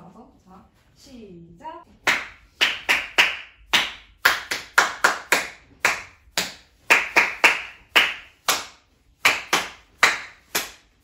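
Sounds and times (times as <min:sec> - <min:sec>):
hand claps in rhythm: 0:02.0 - 0:11.0.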